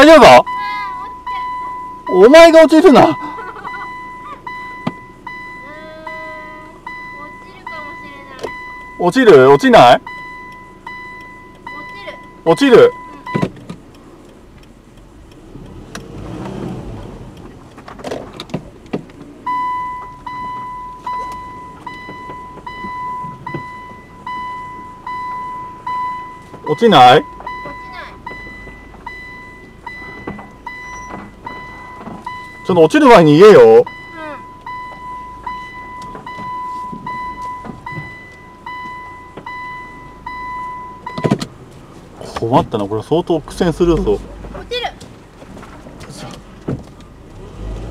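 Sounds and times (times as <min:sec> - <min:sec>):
car warning beeps: 0:00.0 - 0:45.0.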